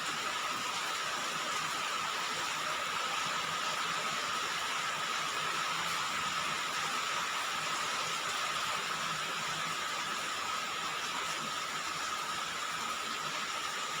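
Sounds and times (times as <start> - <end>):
rain on a roof: 0.0 - 14.0.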